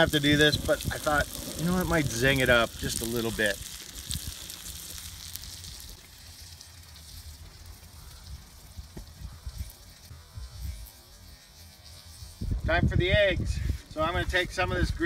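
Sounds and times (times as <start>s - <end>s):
meat sizzling on a griddle: 0.0s - 13.4s.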